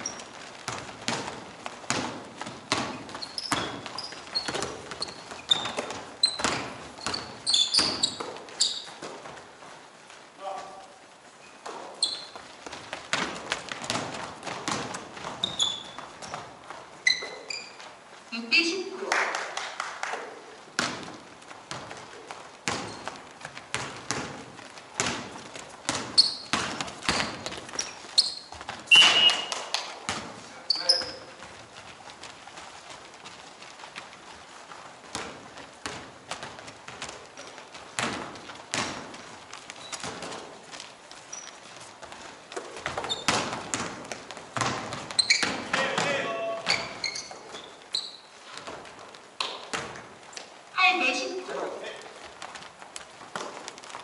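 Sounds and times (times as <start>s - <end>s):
basketball bouncing: 0.0s - 9.5s, 11.6s - 17.6s, 20.7s - 50.5s
sneakers squeaking on floor: 0.0s - 19.0s, 20.2s - 54.0s.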